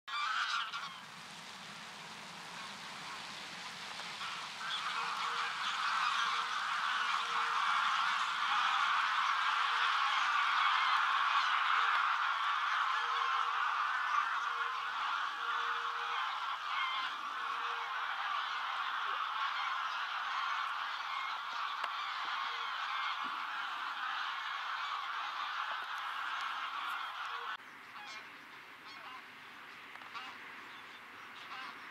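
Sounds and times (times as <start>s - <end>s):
flock of geese honking: 0.1s - 31.9s.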